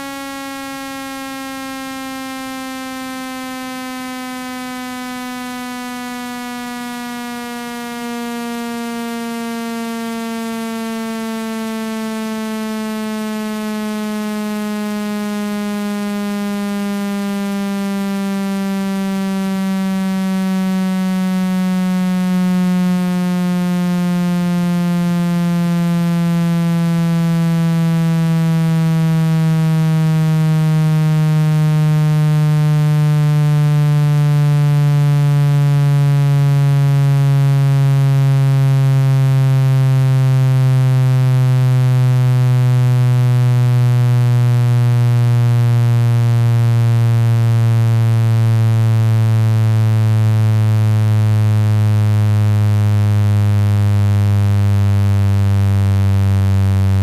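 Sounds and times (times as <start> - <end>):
buzzy electronic drone falling in pitch: 0.0 - 57.0.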